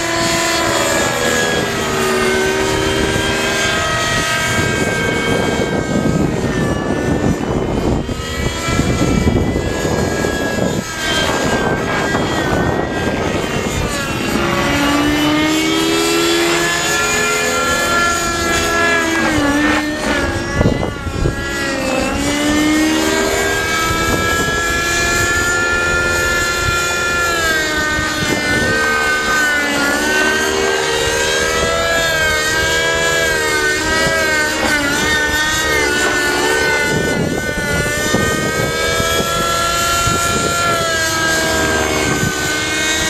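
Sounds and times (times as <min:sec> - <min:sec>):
rc helicopter engine and rotor buzzing: 0:00.0 - 0:43.0.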